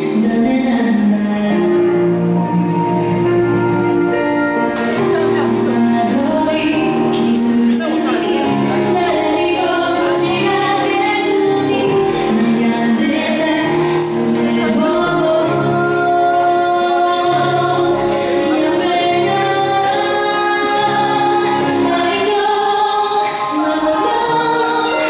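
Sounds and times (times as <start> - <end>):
song with singing voices: 0.0 - 25.0.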